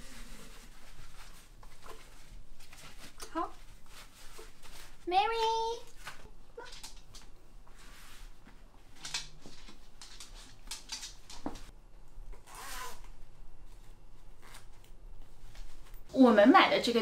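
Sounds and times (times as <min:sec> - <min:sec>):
fabric rustling and rubbing: 0:00.0 - 0:11.8, 0:12.4 - 0:16.1.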